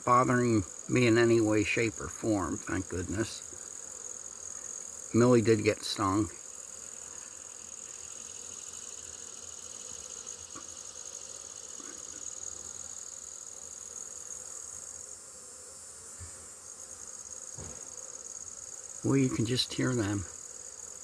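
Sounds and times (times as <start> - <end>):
high-pitched insect trill: 0.0 - 21.0
honey bees buzzing: 0.0 - 21.0.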